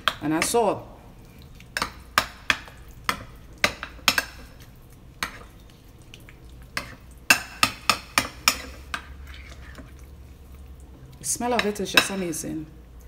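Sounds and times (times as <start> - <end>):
wet mash being turned: 0.0 - 12.2.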